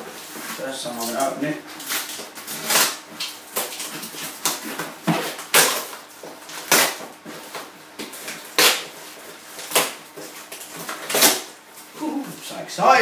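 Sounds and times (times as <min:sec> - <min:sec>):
packing tape and cardboard tearing: 0:00.0 - 0:12.6.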